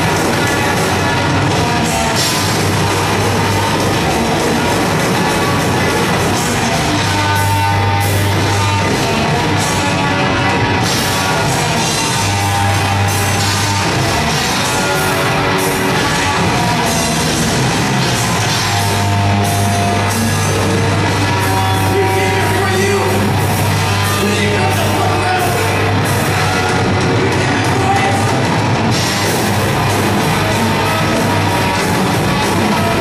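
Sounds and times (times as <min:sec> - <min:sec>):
drum kit: 0:00.0 - 0:33.0
electric guitar: 0:00.0 - 0:33.0.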